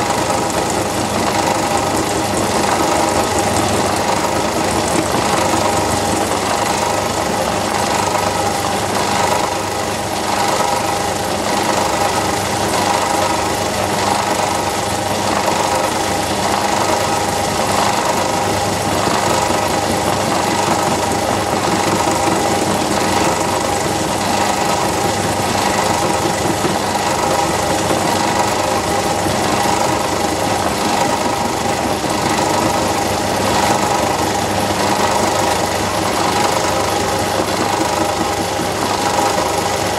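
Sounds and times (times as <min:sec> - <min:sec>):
lathe mechanical hum and whine: 0:00.0 - 0:39.9.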